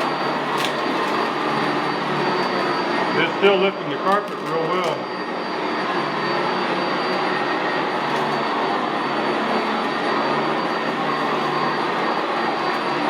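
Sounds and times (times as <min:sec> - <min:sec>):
upright vacuum running on carpet: 0:00.0 - 0:13.0.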